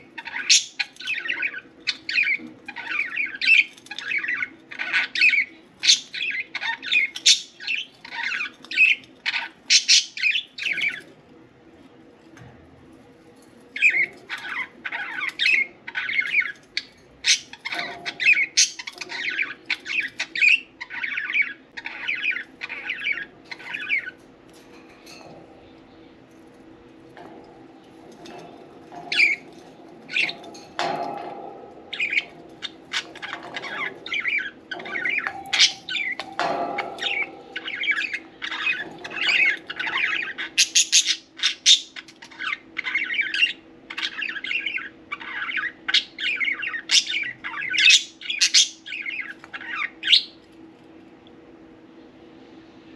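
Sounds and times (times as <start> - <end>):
budgerigars chirping: 0.0 - 11.0, 13.8 - 24.2, 28.1 - 50.4
faint low hum: 0.0 - 52.9.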